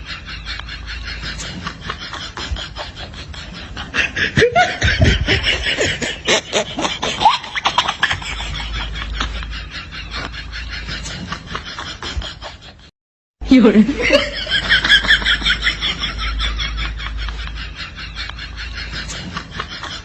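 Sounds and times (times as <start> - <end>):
person laughing: 0.0 - 12.9, 13.6 - 20.0.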